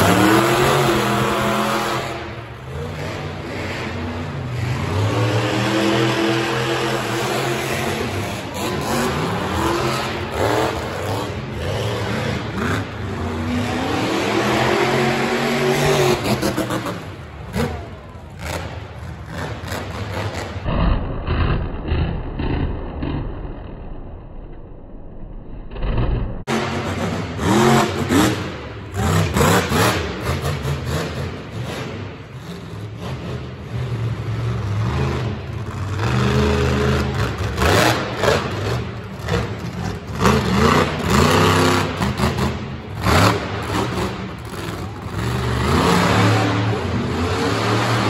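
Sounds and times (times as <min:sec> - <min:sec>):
monster truck engines revving: 0:00.0 - 0:24.2, 0:25.7 - 0:48.0.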